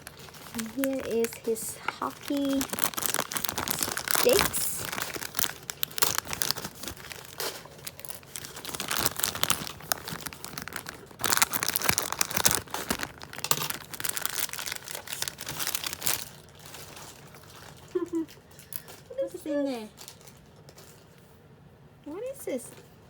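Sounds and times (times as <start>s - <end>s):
plastic packaging crinkling: 0.0s - 19.2s, 19.9s - 21.1s.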